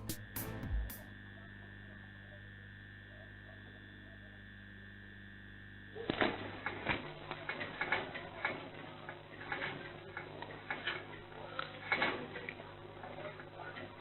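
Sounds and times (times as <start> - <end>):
electrical hum: 0.0 - 14.0
thin high whine: 0.0 - 14.0.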